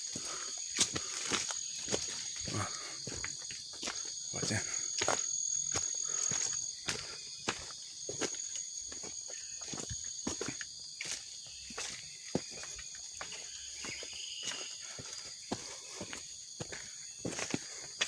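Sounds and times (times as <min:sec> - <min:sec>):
footsteps crunching on wet trail: 0:00.0 - 0:18.0
insects droning: 0:00.0 - 0:18.0.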